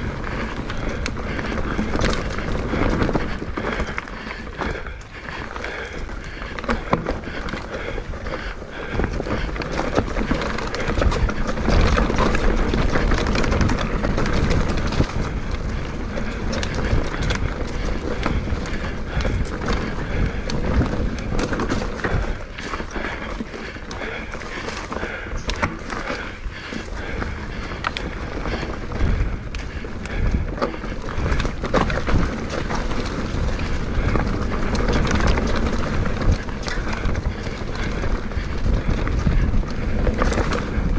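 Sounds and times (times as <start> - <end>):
bike rattling over bumps: 0.0 - 40.9
wind buffeting microphone: 0.0 - 40.9.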